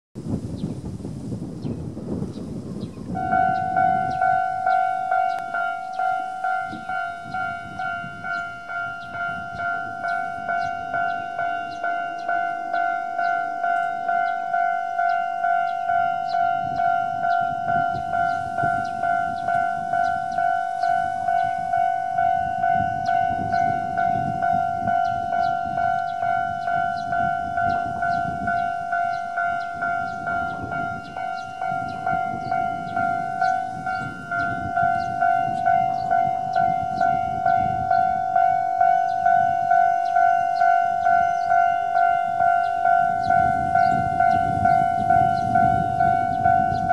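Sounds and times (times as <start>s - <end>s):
level crossing warning bell ringing: 3.1s - 46.9s.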